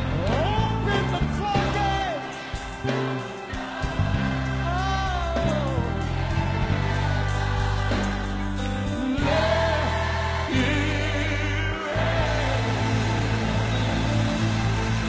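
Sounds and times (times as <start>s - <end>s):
instrumental accompaniment: 0.0s - 15.0s
gospel choir singing: 0.9s - 15.0s.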